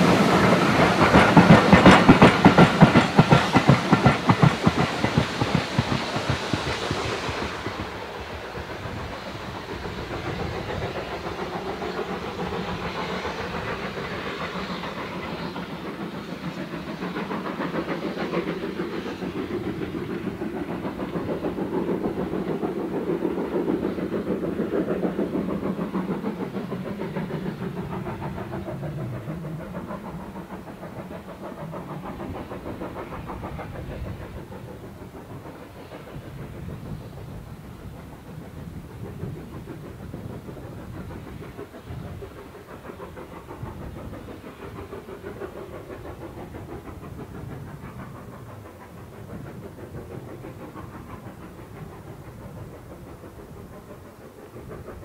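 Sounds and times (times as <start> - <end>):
steam train wheels rumbling on rails: 0.0 - 55.0.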